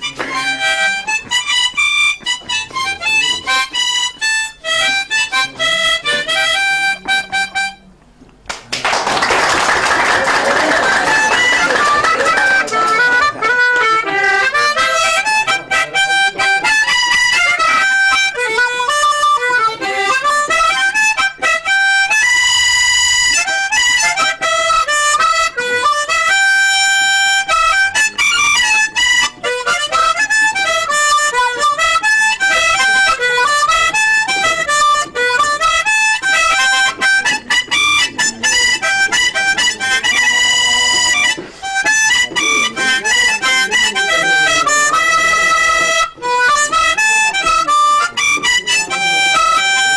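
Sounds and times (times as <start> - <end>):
harmonica melody: 0.0 - 8.4, 9.3 - 49.9.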